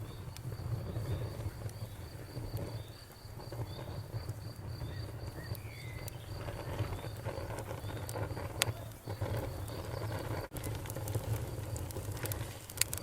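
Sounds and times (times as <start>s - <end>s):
crickets chirping: 0.0s - 10.5s
bonfire rumbling: 0.0s - 13.0s
burning wood crackling: 0.0s - 13.0s.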